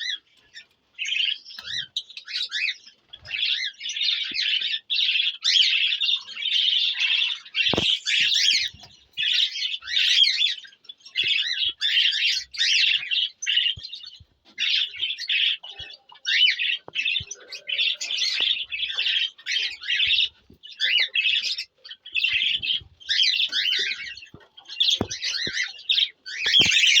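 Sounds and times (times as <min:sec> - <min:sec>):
cage birds chirping: 0:00.0 - 0:27.0.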